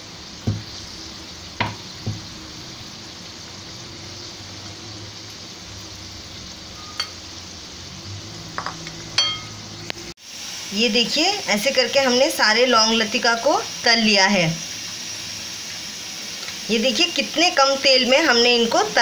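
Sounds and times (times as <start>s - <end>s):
pastries sizzling in oil: 0.0s - 19.0s.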